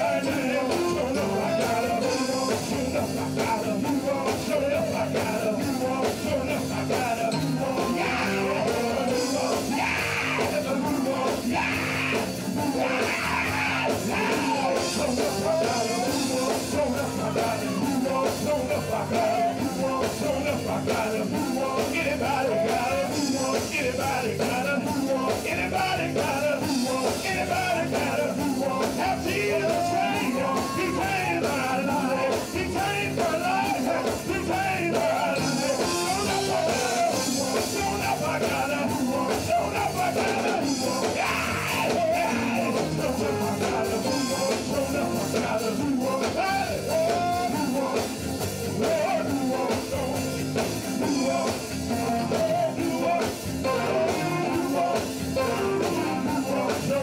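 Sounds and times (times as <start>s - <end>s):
drums: 0.0s - 57.0s
electric guitar: 0.0s - 57.0s
keyboard: 0.0s - 57.0s
male vocal group singing: 0.0s - 57.0s.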